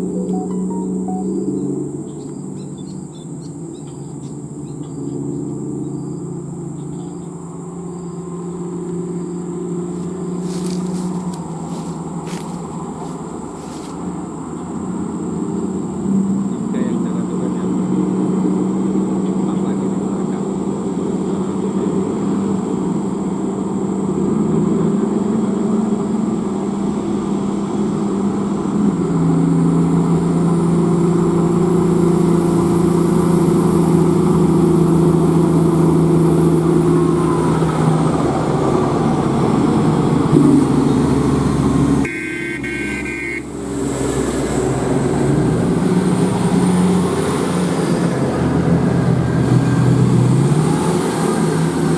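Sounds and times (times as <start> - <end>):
large diesel engine running: 0.0 - 51.9.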